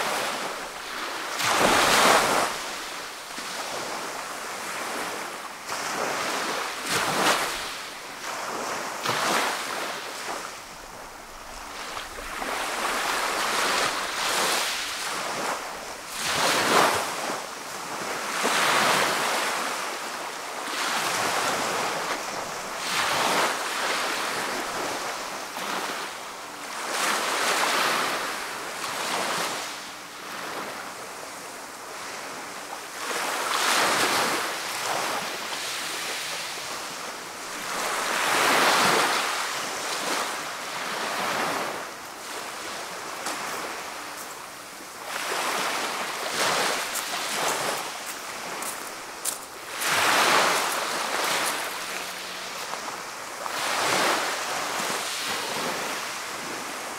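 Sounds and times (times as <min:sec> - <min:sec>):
waves washing up pebbly shore: 0:00.0 - 0:56.9.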